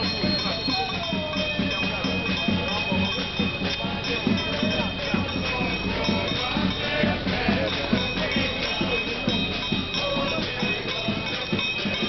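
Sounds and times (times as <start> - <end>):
music with steady drum beat: 0.0 - 12.0.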